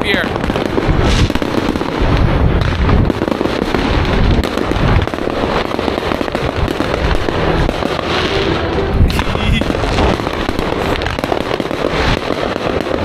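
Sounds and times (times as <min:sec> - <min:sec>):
fireworks crackling and popping: 0:00.0 - 0:13.0
low booming: 0:00.0 - 0:13.0.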